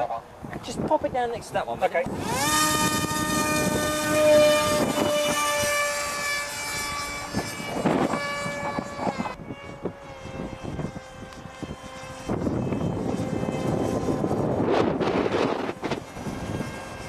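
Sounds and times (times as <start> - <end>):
model plane motor whining: 1.9 - 17.0.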